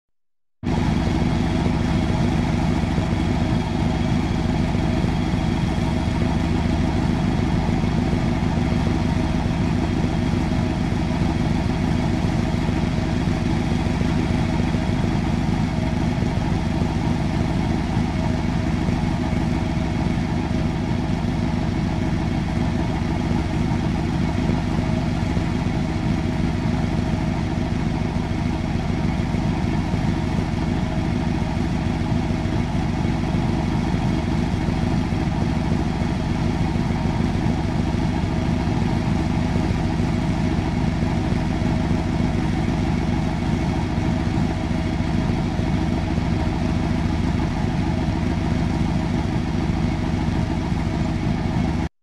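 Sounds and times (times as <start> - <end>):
car engine idling: 0.6 - 51.9.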